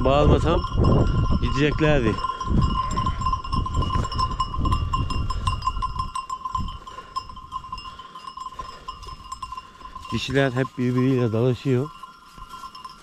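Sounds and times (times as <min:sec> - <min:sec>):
sheep bells clinking: 0:00.0 - 0:13.0.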